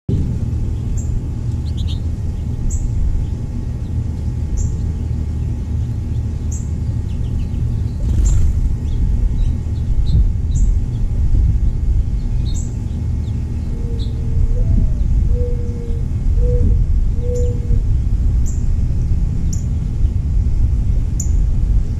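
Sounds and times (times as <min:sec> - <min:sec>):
loud steady low rumble: 0:00.0 - 0:21.9
small birds chirping: 0:00.5 - 0:20.4.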